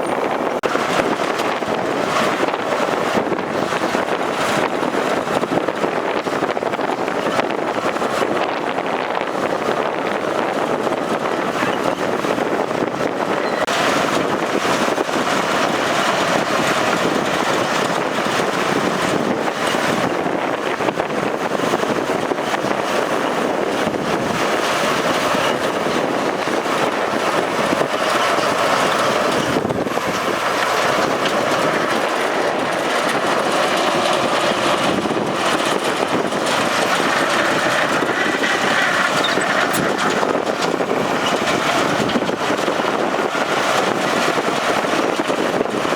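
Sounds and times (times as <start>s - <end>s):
heavy diesel machinery droning: 0.0s - 45.9s.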